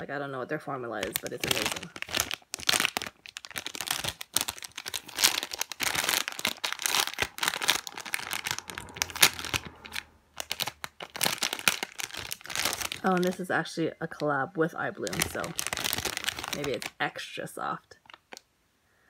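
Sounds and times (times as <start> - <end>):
plastic packaging crinkling: 0.9 - 18.5.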